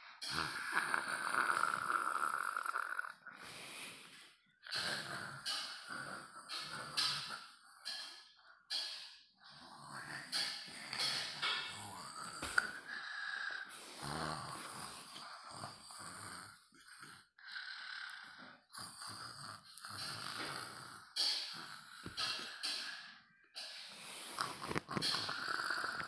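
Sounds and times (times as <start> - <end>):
person snoring: 0.2 - 8.1, 9.4 - 26.0.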